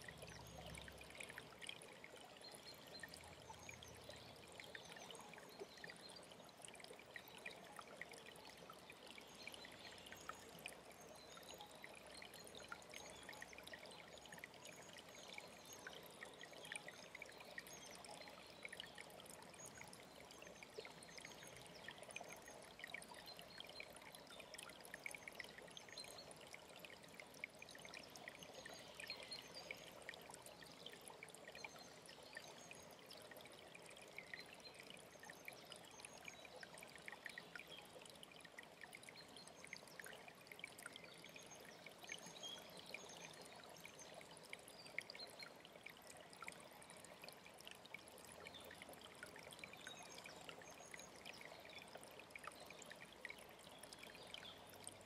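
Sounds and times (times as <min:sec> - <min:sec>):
mountain stream trickling: 0:00.0 - 0:55.0.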